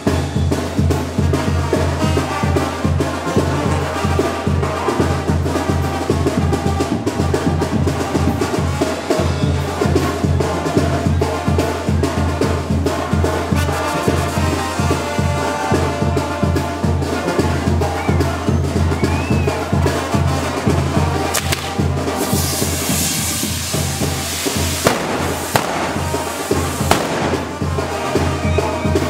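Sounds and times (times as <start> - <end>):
band music with brass: 0.0 - 29.0
steady drum beat: 0.0 - 29.0.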